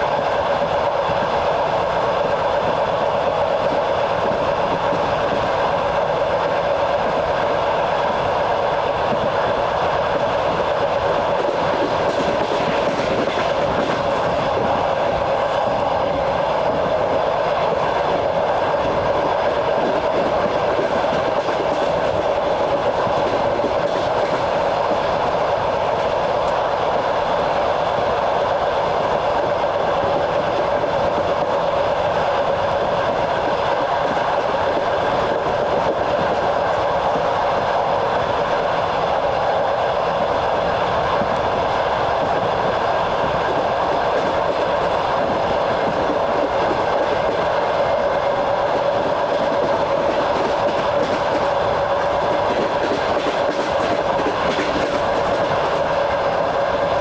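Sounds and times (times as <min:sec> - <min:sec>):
faint clickety-clack: 0:00.0 - 0:57.0
train wheels rumbling on rails: 0:00.0 - 0:57.0.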